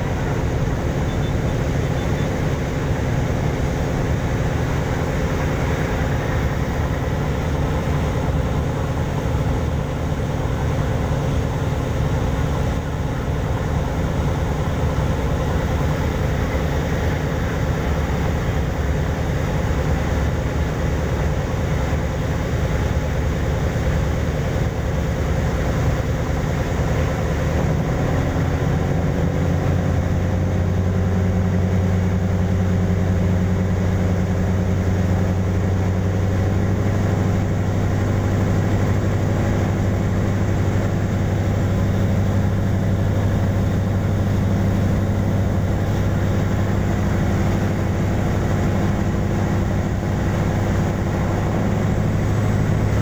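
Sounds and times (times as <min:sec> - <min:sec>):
ferry engines droning: 0:00.0 - 0:53.0
wake rushing along hull: 0:00.0 - 0:53.0.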